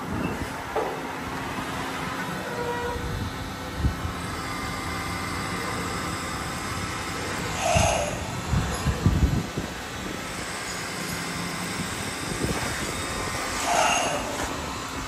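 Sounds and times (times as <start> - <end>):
machine running with whine: 0.0 - 15.0.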